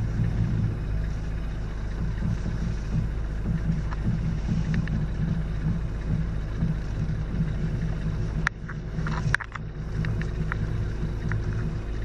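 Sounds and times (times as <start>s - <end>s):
low car cabin hum: 0.0s - 12.0s
suspension creaking and clicking: 0.0s - 12.0s.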